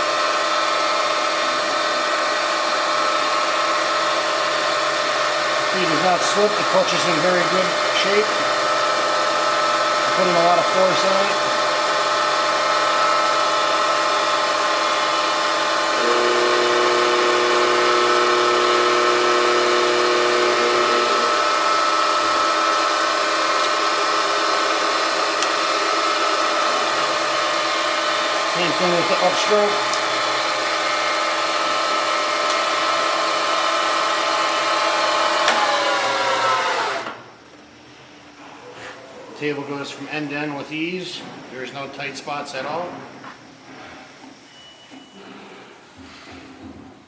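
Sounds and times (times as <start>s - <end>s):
milling machine whine: 0.0s - 38.0s.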